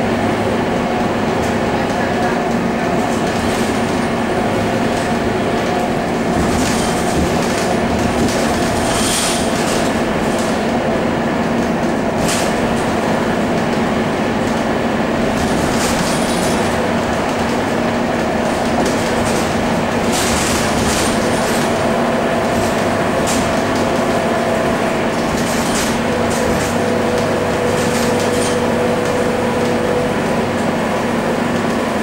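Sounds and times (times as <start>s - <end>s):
bus engine humming: 0.0s - 32.0s
road noise: 0.0s - 32.0s.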